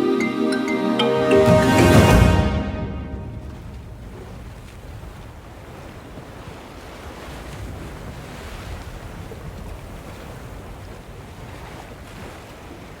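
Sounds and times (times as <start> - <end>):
ocean surf washing: 0.0 - 13.0
wind: 0.0 - 13.0.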